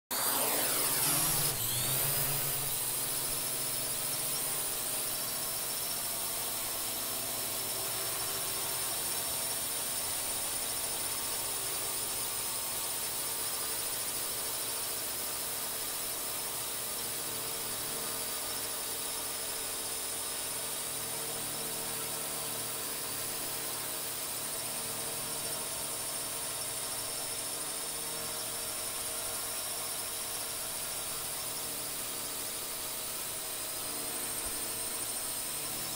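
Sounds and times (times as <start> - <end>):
drone motors whining: 0.1 - 35.9.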